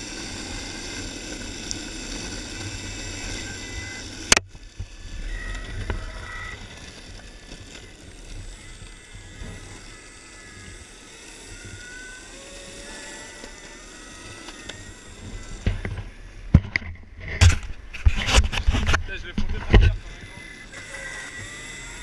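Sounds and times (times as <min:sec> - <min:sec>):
electric motor whine: 0:00.0 - 0:22.0
wheels rumbling on asphalt: 0:00.0 - 0:22.0.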